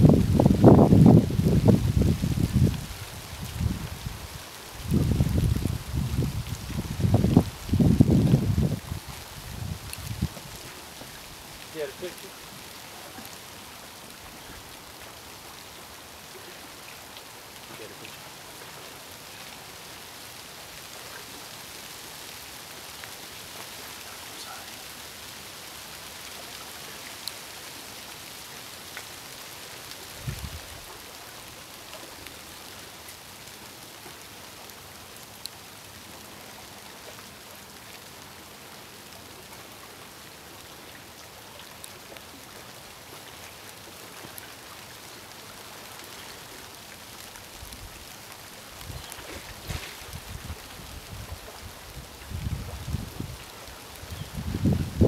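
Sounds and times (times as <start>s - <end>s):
outdoor hiss: 0.0s - 55.0s.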